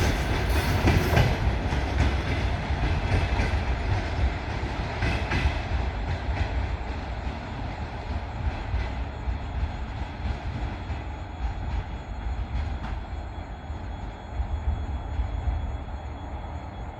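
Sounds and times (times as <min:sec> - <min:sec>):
train coaches rumbling: 0:00.0 - 0:16.9.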